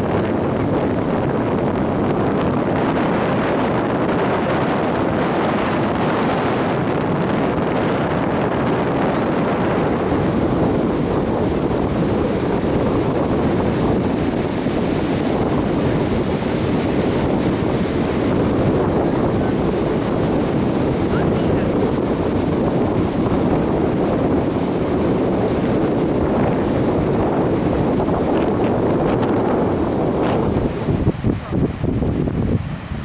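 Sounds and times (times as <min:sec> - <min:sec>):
sea surf: 0:00.0 - 0:33.0
wind on microphone: 0:00.0 - 0:33.0.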